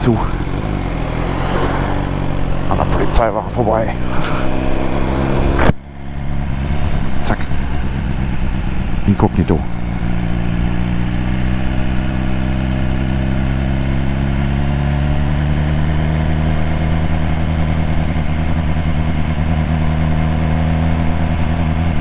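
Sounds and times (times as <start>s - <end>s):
motorcycle engine running at low revs: 0.0s - 22.0s.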